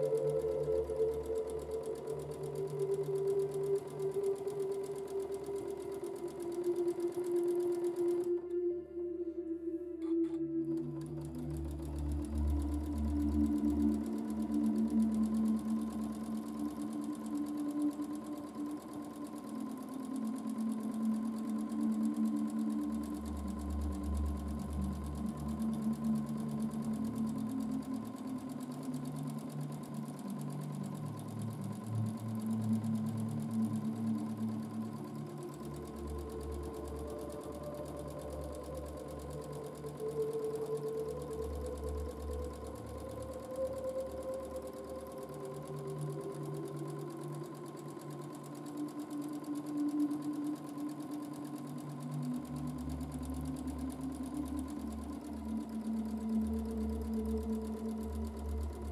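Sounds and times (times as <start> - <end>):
sewing machine stitching: 0.0 - 8.5, 10.0 - 58.9.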